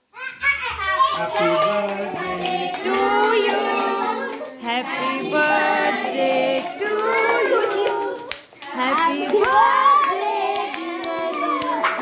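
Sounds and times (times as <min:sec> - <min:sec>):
high voices singing: 0:01.1 - 0:12.0.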